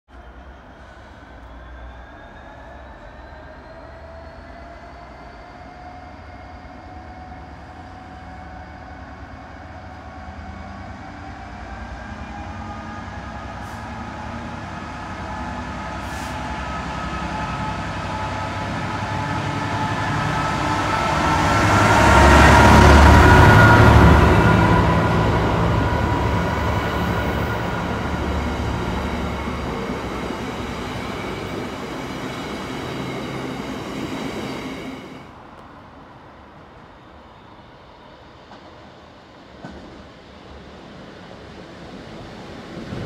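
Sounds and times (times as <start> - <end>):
diesel locomotive engine passing: 0.1 - 43.0.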